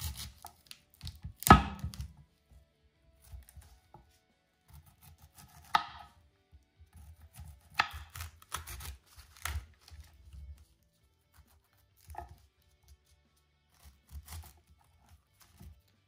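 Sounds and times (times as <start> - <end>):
knife cutting cauliflower: 0.0 - 2.2, 3.2 - 6.2, 6.8 - 16.0.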